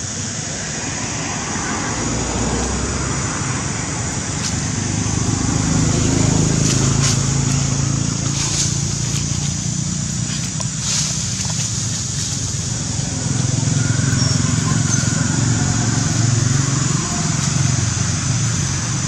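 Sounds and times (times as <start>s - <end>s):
steady high hiss: 0.0s - 19.0s
vehicle engine droning: 0.0s - 19.0s.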